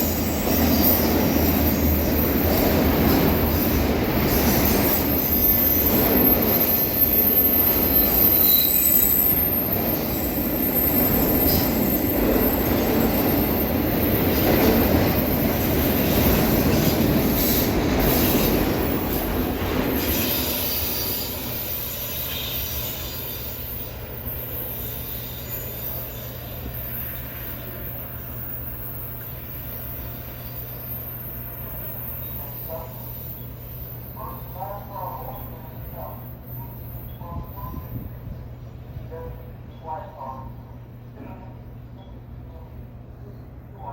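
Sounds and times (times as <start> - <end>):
train wheels rumbling on rails: 0.0 - 39.7.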